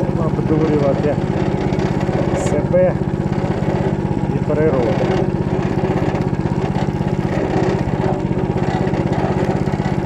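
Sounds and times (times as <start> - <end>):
rotary tiller engine running: 0.0 - 10.0.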